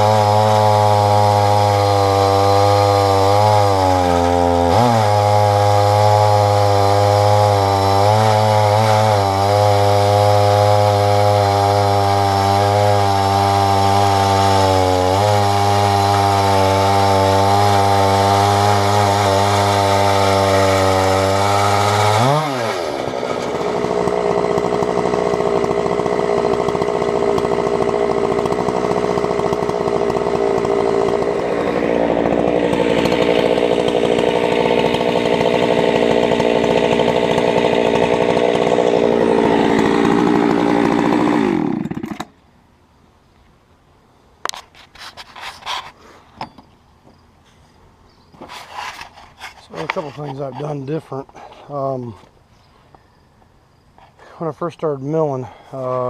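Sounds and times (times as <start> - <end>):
chainsaw cutting wood: 0.0 - 42.4, 44.4 - 46.7, 48.4 - 52.4, 54.0 - 56.0.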